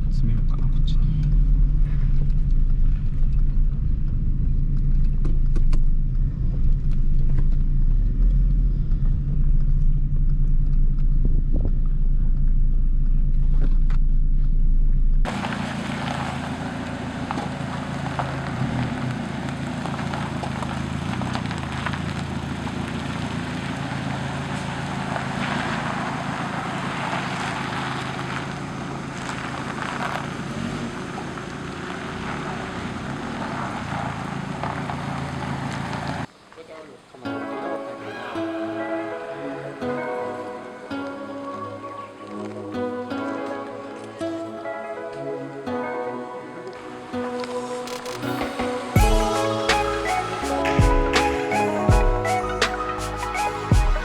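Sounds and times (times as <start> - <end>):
car engine drone: 0.0 - 36.4, 45.2 - 54.0
road noise: 0.0 - 54.0.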